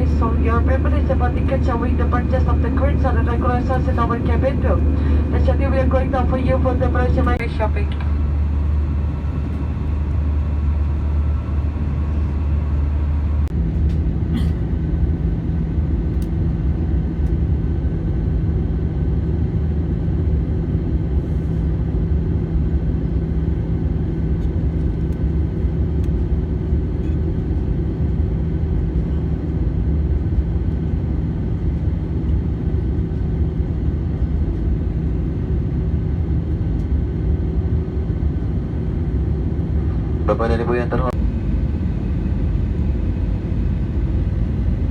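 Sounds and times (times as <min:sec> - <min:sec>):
airplane cabin engine rumble: 0:00.0 - 0:44.9
constant cabin hum: 0:00.0 - 0:44.9.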